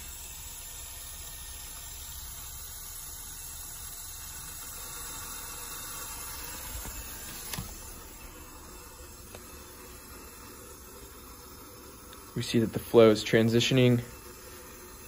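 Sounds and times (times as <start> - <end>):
water hissing through tubing: 0.0 - 15.0.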